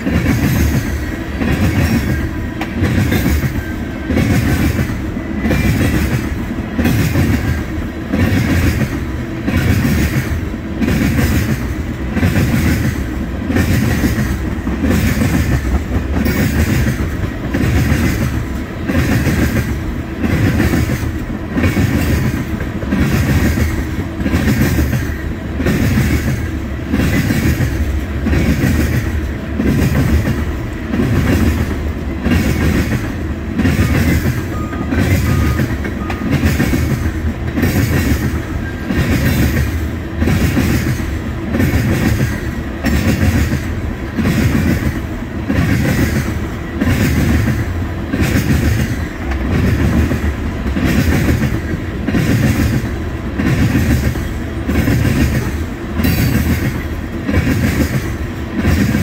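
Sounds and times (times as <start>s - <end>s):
freight train rumble: 0.0s - 59.0s
wheels clacking over rail joints: 0.0s - 59.0s.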